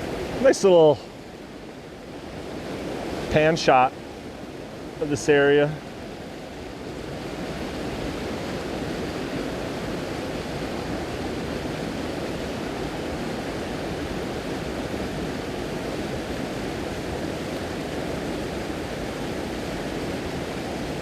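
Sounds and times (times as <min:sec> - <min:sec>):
waterfall rushing into pool: 0:00.0 - 0:01.7, 0:02.6 - 0:04.1, 0:04.7 - 0:21.0.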